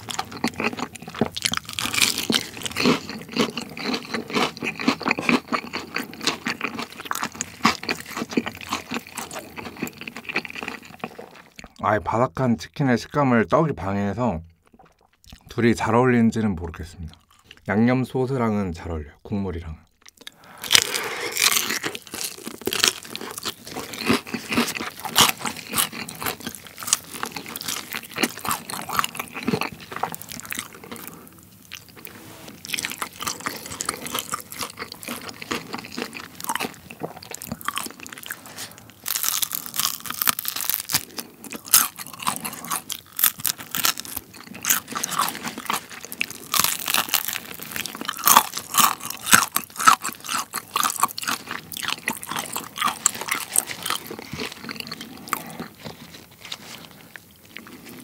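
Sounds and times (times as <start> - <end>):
crunchy chewing of fried chicken: 0.0 - 11.8, 17.0 - 17.7, 20.0 - 58.0.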